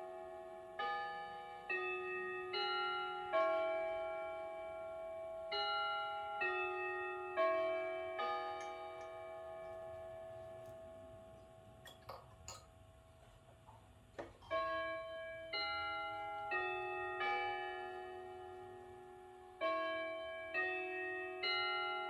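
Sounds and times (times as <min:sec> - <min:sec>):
clock chime notes ringing: 0:00.0 - 0:11.9, 0:14.4 - 0:22.0.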